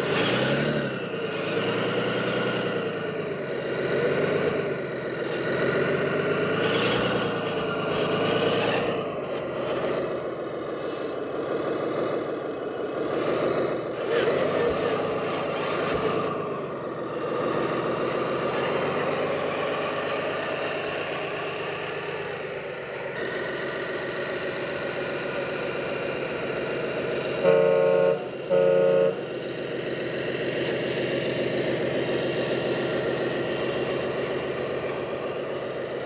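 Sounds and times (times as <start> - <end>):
simulated diesel engine: 0.0 - 36.0.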